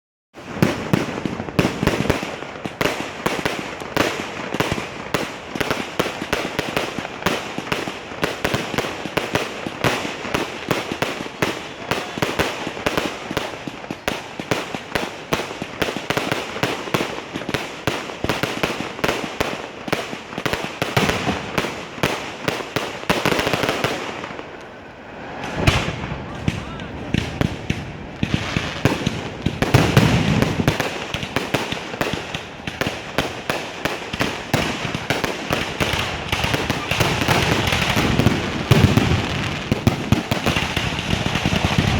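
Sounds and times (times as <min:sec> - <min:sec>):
fireworks bangs and crackles: 0:00.3 - 0:41.9.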